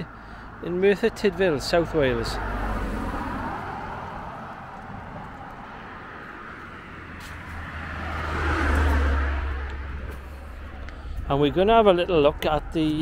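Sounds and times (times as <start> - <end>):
car passing: 0.0 - 13.0
vehicle approaching: 0.0 - 13.0.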